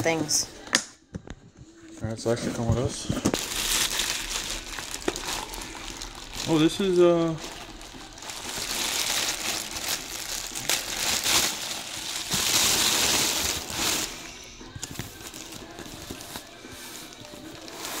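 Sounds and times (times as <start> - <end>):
plastic bag rustling and crinkling: 2.1 - 18.0.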